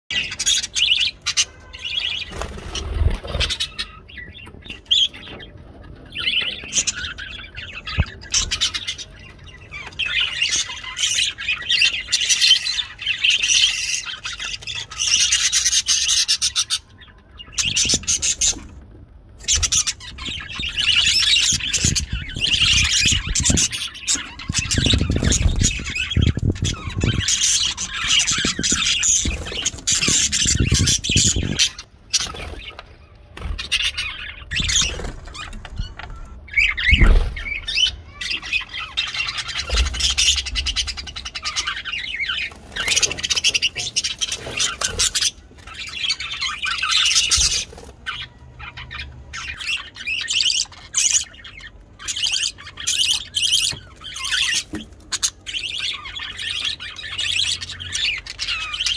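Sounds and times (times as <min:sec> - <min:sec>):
budgerigars chattering: 0:00.1 - 0:18.8, 0:19.4 - 0:58.9.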